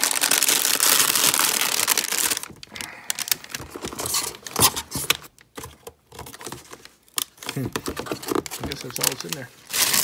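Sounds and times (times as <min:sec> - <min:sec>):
plastic bag crinkling: 0:00.0 - 0:05.0, 0:06.2 - 0:10.0
cardboard packaging rustling: 0:00.0 - 0:10.0.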